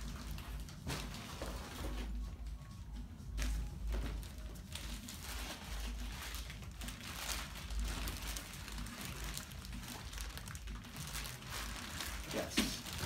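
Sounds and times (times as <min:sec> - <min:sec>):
packaging rustling and crinkling: 0:00.0 - 0:02.5, 0:03.3 - 0:13.0.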